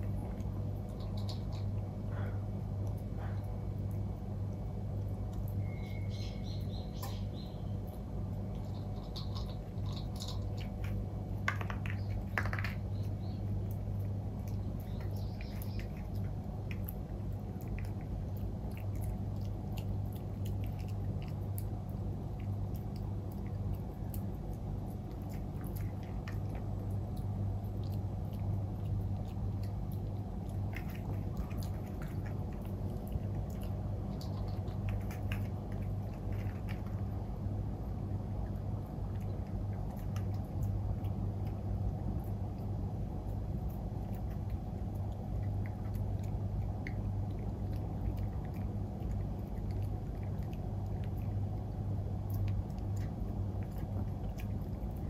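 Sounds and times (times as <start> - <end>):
puppy crunching dry kibble: 0.0 - 55.0
steady low hum: 0.0 - 55.0.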